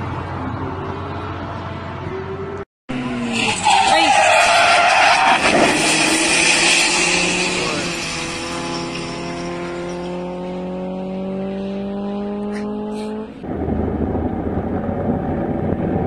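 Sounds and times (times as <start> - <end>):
car engine accelerating: 0.0 - 16.0
road and wind noise: 0.0 - 16.0.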